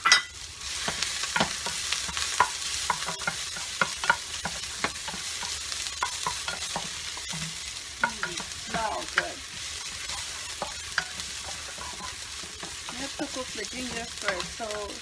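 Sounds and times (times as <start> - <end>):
ginger sizzling in hot oil: 0.0 - 15.0
utensil clicking against pan: 0.9 - 15.0.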